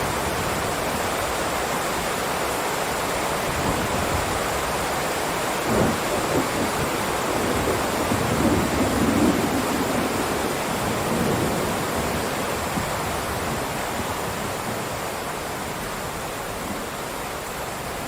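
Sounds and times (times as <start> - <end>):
heavy rain hiss: 0.0 - 18.0.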